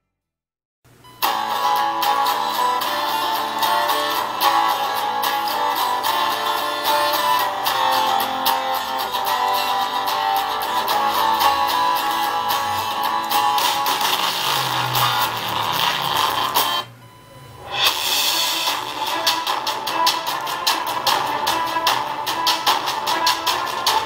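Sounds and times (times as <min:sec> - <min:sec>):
strummed guitar through small speaker: 0:01.0 - 0:17.0, 0:17.6 - 0:24.0.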